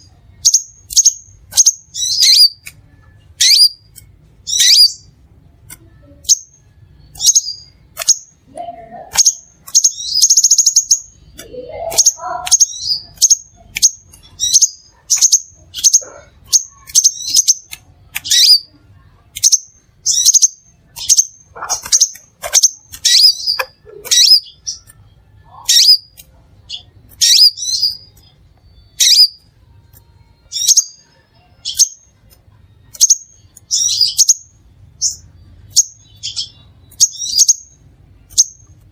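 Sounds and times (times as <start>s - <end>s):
buzzy bird trill: 0.0s - 5.2s, 5.8s - 18.8s, 19.4s - 38.9s
bird chirping: 0.0s - 38.9s.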